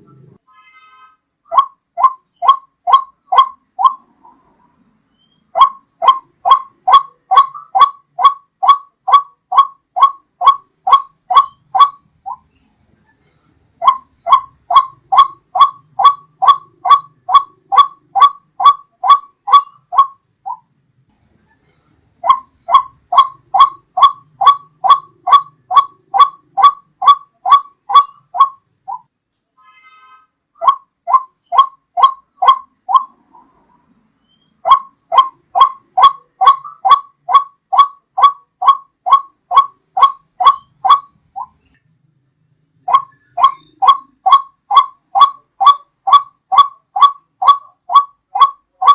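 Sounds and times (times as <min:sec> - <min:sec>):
waterhen calling: 0:01.5 - 0:04.5, 0:05.2 - 0:12.5, 0:13.8 - 0:20.6, 0:22.2 - 0:29.1, 0:30.6 - 0:33.6, 0:34.4 - 0:41.7, 0:42.8 - 0:48.9.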